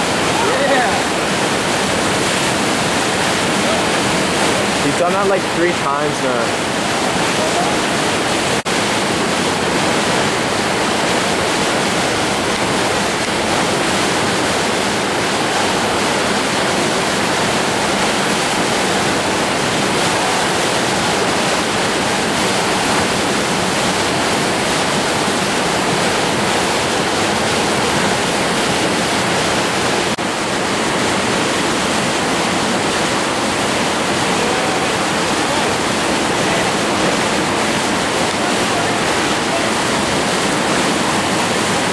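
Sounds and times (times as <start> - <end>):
river rapids rushing: 0.0 - 41.9.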